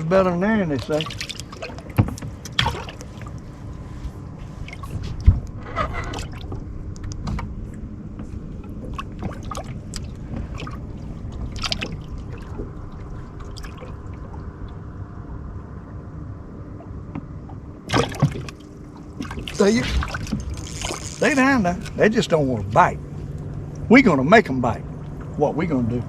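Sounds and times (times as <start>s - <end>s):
steady low rumble: 0.0s - 26.0s
water trickling and gurgling: 0.7s - 22.8s.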